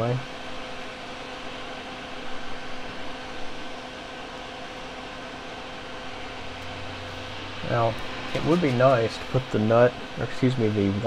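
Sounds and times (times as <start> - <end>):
fan-like hum and hiss: 0.0 - 11.0.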